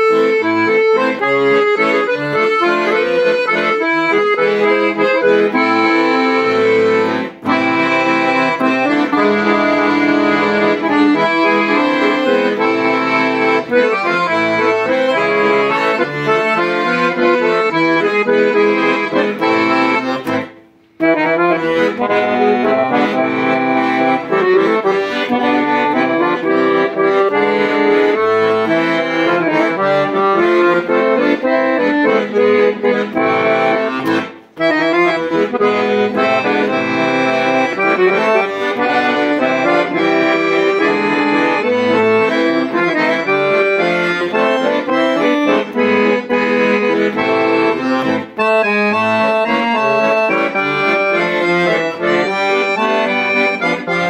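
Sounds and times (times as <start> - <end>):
piano accordion playing: 0.0 - 54.0.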